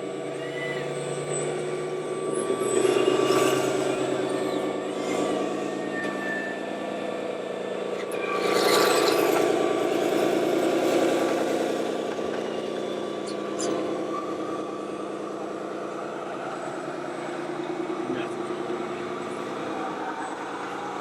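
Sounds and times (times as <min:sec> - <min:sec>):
simulated diesel engine running: 0:00.0 - 0:21.0.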